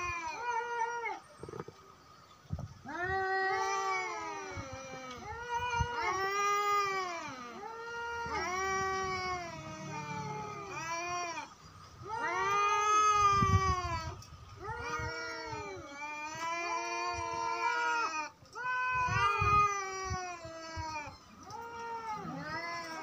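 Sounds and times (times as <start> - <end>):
cat yowling: 2.8 - 23.0.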